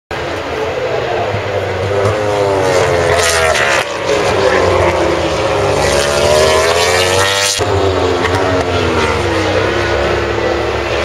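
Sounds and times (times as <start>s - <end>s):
racing motorcycles passing at high revs: 0.5s - 11.0s.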